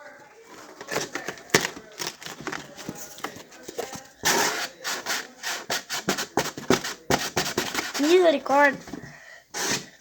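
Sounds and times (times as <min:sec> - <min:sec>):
cardboard scraping and rubbing: 0:00.4 - 0:09.0.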